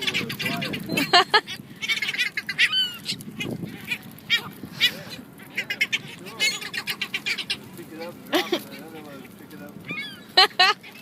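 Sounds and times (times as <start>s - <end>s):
birds harsh calling: 0.0s - 11.0s.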